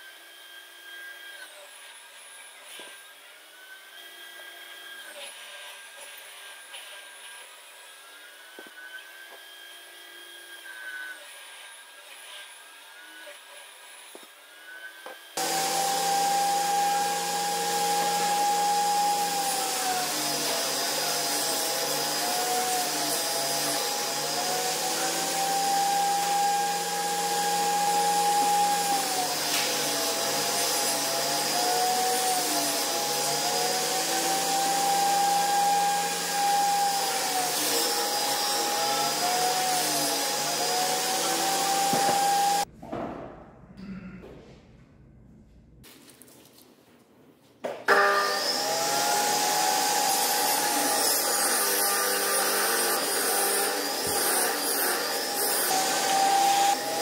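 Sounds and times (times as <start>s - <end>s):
table saw cutting wood: 0.0s - 42.7s, 47.9s - 57.0s.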